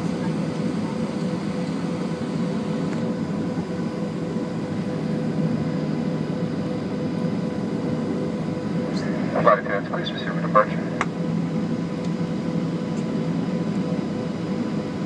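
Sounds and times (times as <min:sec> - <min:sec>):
jet engines humming in cabin: 0:00.0 - 0:15.0.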